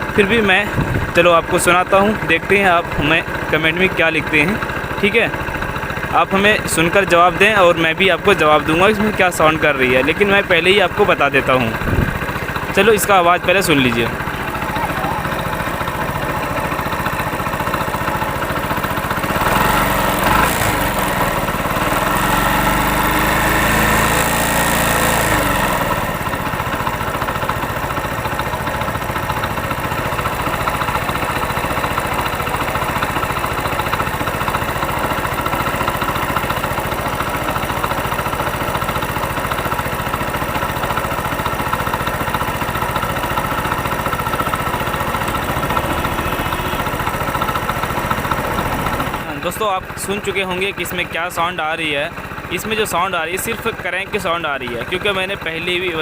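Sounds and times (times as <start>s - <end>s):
light engine knock: 0.0s - 56.0s
motorcycle engine idling and revving: 0.0s - 56.0s.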